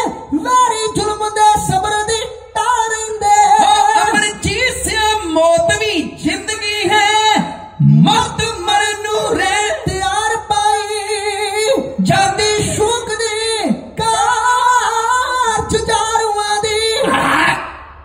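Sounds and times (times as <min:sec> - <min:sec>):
men singing through loudspeaker: 0:00.0 - 0:17.8.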